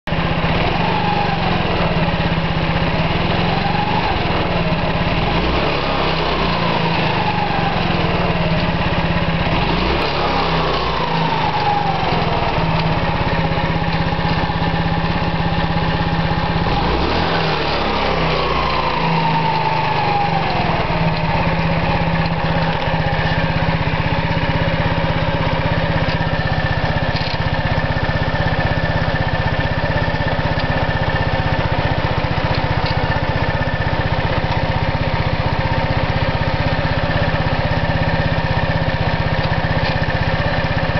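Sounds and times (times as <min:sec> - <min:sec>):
scooter engine revving and idling: 0:00.1 - 0:40.9.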